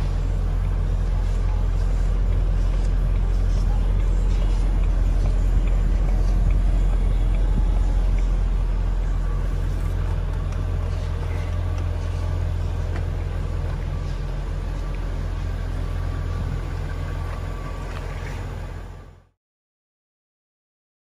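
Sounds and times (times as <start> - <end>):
car engine idling: 0.0 - 19.3.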